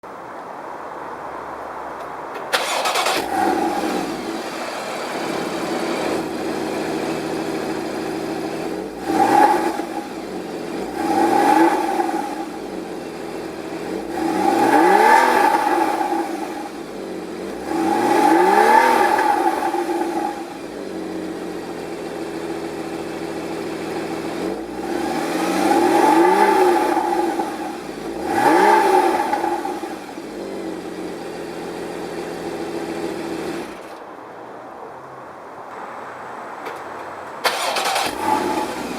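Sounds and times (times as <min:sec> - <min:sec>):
car engine idling and revving: 0:00.0 - 0:34.0, 0:35.0 - 0:38.9.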